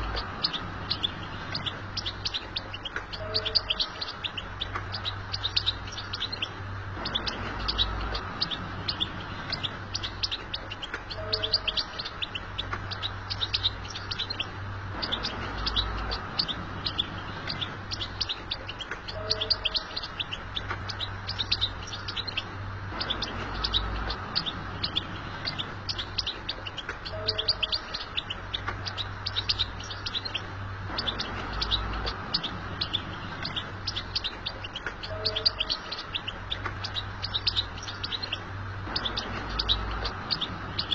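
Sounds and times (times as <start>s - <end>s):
finch twittering: 0.0s - 40.9s.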